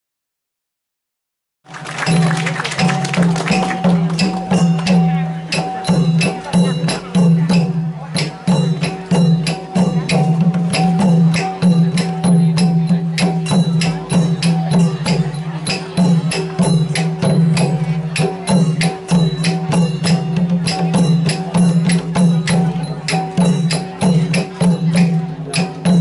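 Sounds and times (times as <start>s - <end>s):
sharp percussion strikes: 1.8s - 26.0s.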